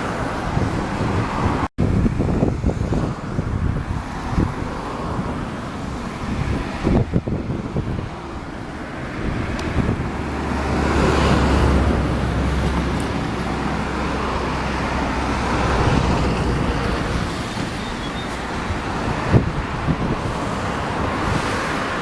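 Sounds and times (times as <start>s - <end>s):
road traffic noise: 0.0s - 22.0s
vehicle engine hum: 0.0s - 22.0s
wind on microphone: 0.0s - 22.0s.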